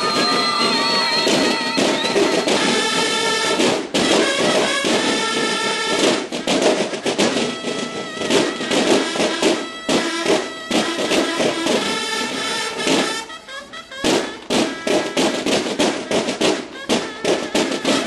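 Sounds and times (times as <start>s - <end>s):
bugle notes: 0.0s - 18.0s
field drums rolling: 0.0s - 18.0s.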